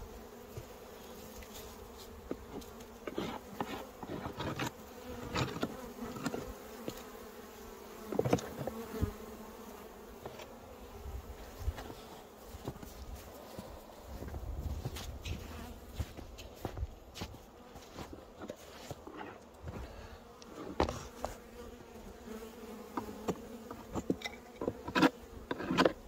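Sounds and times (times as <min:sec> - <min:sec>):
honeybees buzzing: 0:00.0 - 0:26.0
knocks and scrapes on hive: 0:00.1 - 0:26.0.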